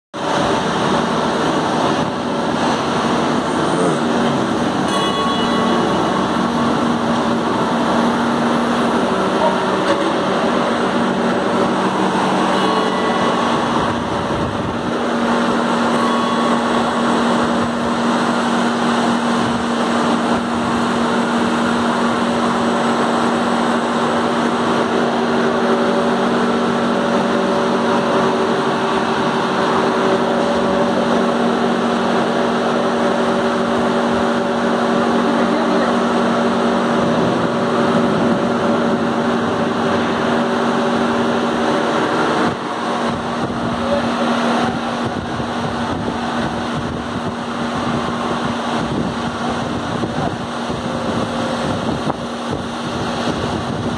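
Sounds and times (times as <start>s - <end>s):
machine loud steady hum: 0.2s - 53.9s.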